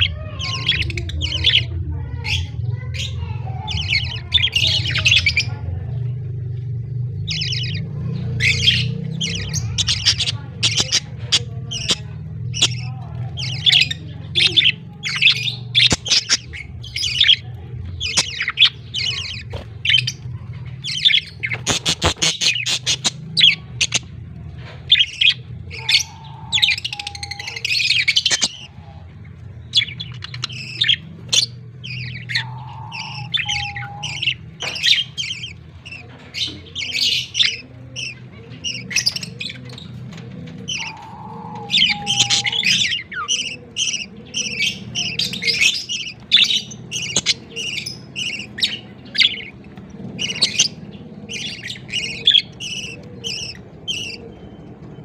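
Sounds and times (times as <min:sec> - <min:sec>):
budgerigars chirping and squawking: 0:00.0 - 0:55.0.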